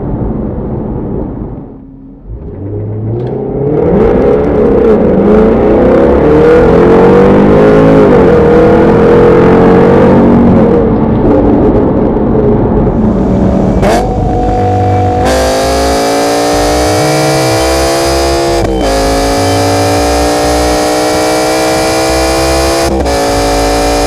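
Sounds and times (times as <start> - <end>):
car engine accelerating hard: 2.2 - 24.0.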